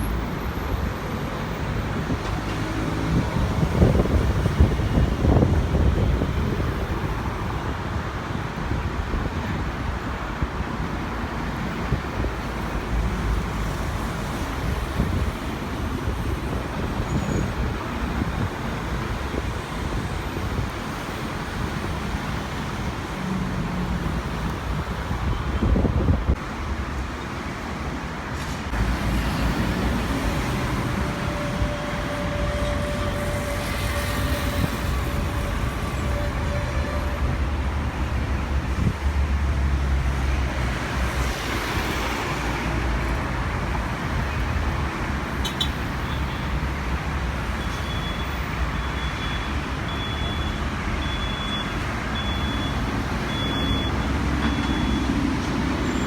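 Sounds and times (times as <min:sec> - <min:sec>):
distant engines rumbling: 0:00.0 - 0:56.0.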